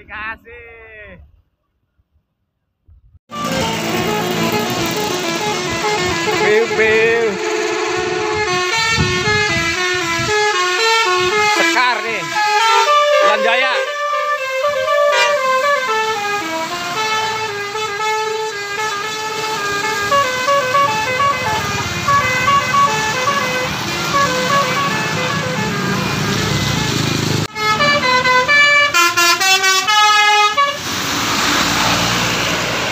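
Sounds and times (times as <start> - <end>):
bus engine running: 3.3 - 11.6, 13.9 - 32.9
bus musical horn: 3.3 - 31.0.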